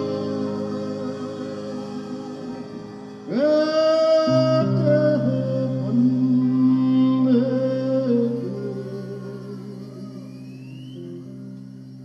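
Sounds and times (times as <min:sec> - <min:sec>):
lead melody with upward slide: 0:00.0 - 0:11.3.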